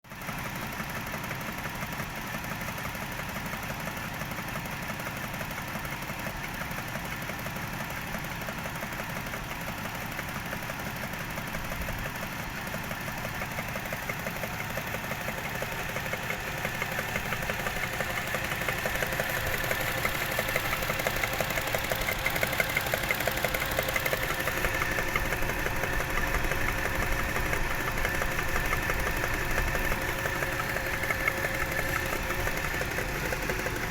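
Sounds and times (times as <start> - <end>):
engine running with rhythmic knock: 0.1 - 33.9.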